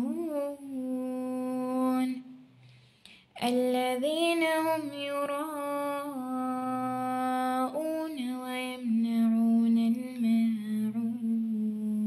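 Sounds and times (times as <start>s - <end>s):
woman chanting recitation: 0.0s - 2.4s, 3.4s - 12.0s.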